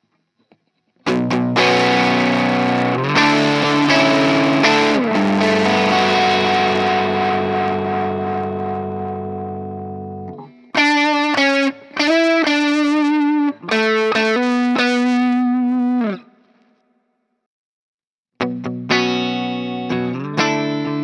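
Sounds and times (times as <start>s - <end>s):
distorted electric guitar: 1.0s - 16.6s, 18.4s - 21.0s.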